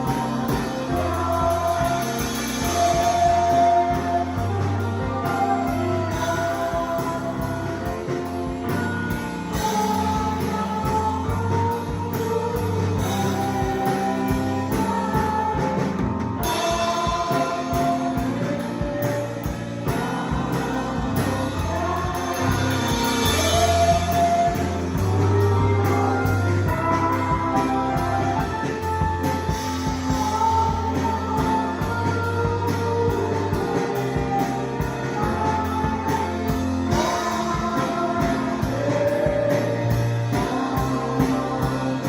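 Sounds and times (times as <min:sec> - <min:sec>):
band accompaniment with bass: 0:00.0 - 0:42.0
person singing: 0:00.0 - 0:42.0.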